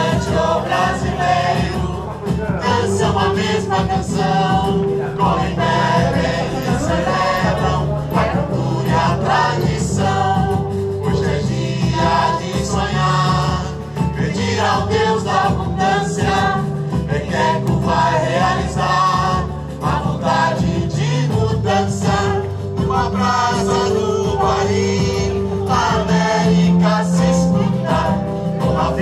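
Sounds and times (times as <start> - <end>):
chorus singing with instruments: 0.0 - 29.0
low bass notes: 0.0 - 29.0.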